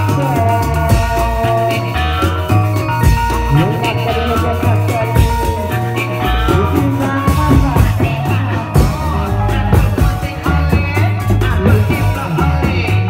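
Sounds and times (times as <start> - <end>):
low bass notes: 0.0 - 13.0
steady drum beat: 0.0 - 13.0
wavering melody: 0.0 - 13.0.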